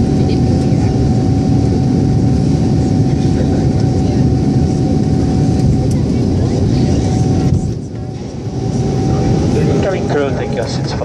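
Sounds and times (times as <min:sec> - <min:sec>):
airliner cabin engine and airflow rush: 0:00.0 - 0:11.0.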